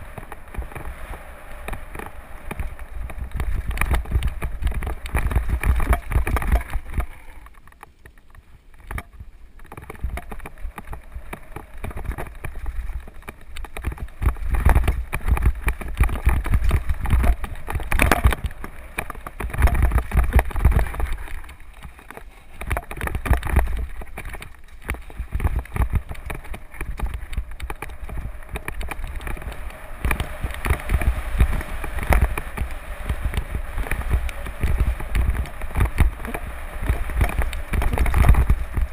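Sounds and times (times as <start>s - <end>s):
wind rumble on microphone: 0.0s - 7.6s, 8.2s - 38.9s
tyre noise on gravel: 0.0s - 38.9s
bike clattering and rattling: 1.6s - 38.9s.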